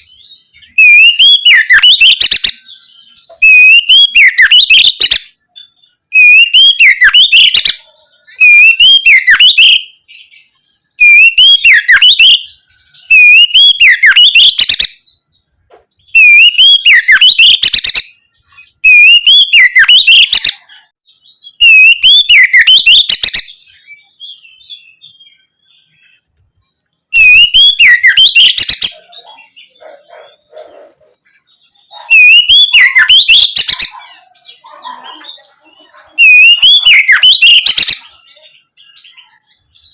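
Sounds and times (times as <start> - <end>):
bird singing whistled phrases: 0.0 - 26.3, 27.1 - 30.3, 31.4 - 39.9.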